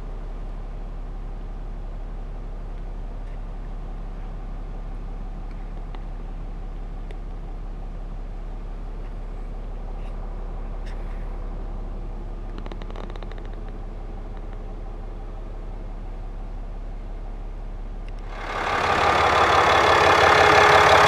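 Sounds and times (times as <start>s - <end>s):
diesel engine idling: 0.1s - 21.0s.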